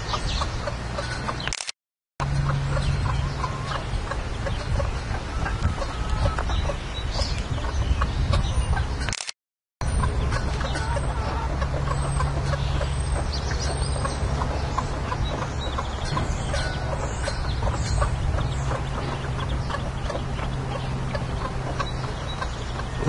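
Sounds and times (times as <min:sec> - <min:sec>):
ducklings peeping: 0:00.0 - 0:01.5, 0:02.2 - 0:09.1, 0:09.8 - 0:23.0
hens clucking: 0:02.3 - 0:08.9, 0:09.9 - 0:23.0.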